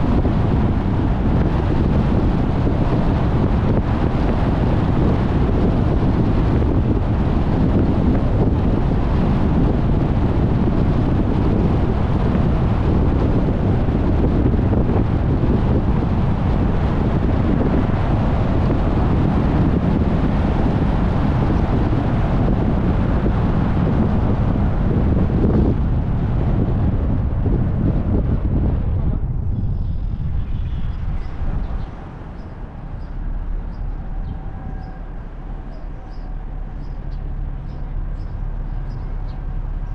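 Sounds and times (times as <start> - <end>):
car road noise: 0.0 - 39.9
wind rumbling on microphone: 0.0 - 39.9.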